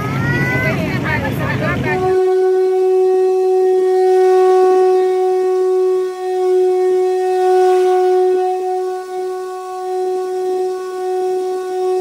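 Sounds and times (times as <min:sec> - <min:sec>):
conch shell blown: 0:01.8 - 0:12.0.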